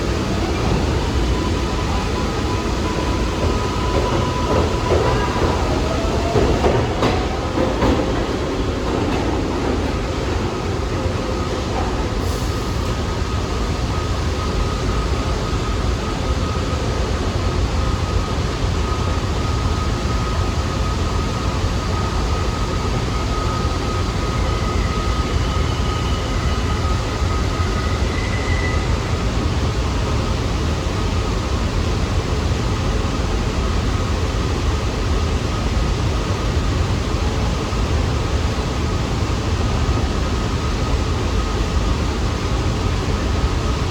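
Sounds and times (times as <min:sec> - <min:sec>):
subway train rumble: 0:00.0 - 0:43.9.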